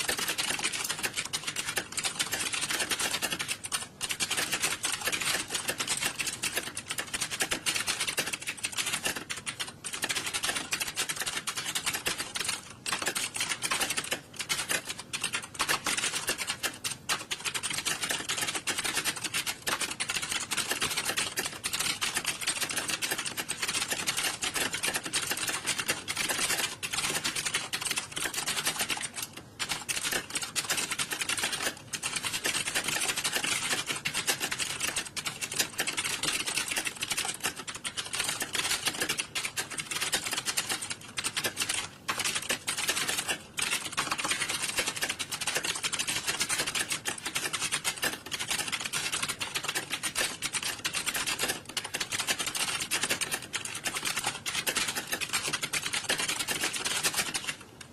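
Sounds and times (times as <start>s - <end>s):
many keyboards clattering: 0.0s - 57.9s.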